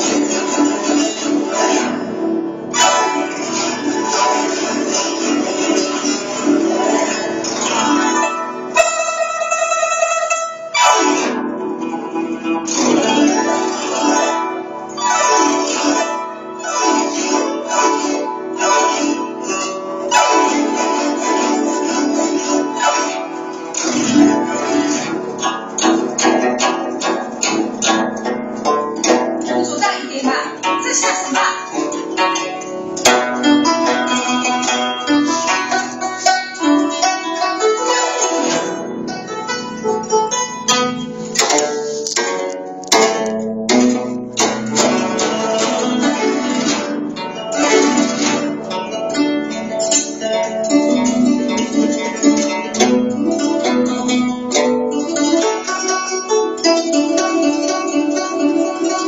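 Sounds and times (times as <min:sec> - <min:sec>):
plucked zither notes: 0:00.0 - 0:59.0.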